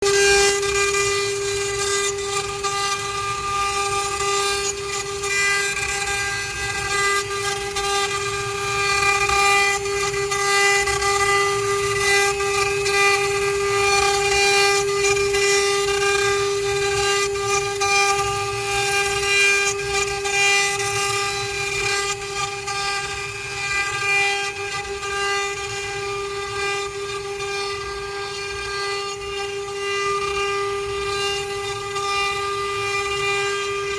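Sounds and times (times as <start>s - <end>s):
router spindles whining: 0.0s - 33.9s.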